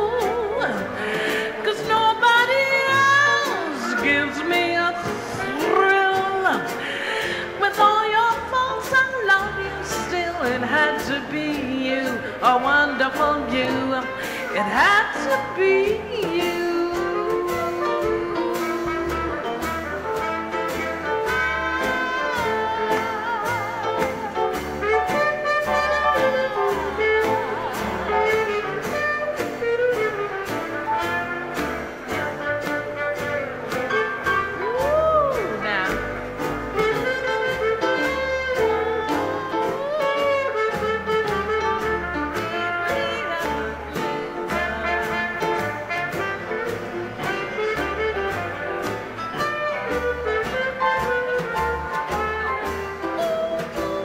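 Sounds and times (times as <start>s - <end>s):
jazz dance orchestra playing: 0.0s - 54.0s.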